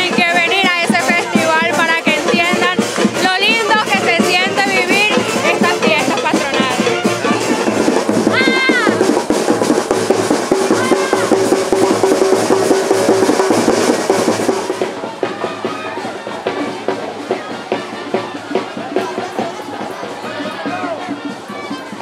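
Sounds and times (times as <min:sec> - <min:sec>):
heavy drumming: 0:00.0 - 0:22.0
parade band music: 0:00.0 - 0:22.0.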